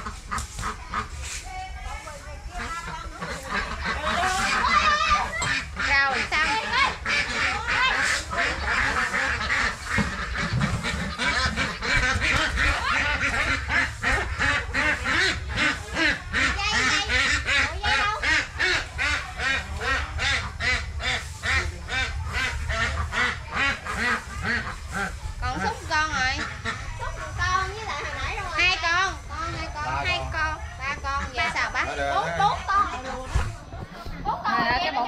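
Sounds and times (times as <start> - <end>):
ducks quacking: 0.0 - 35.0.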